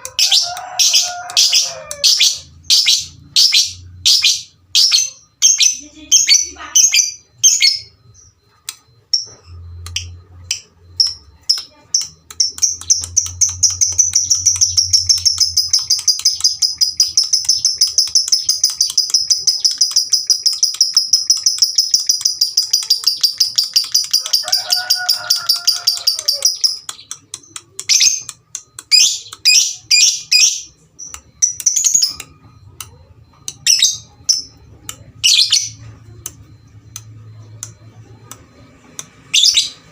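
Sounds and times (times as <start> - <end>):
lovebird chirping and trilling: 0.0 - 39.9.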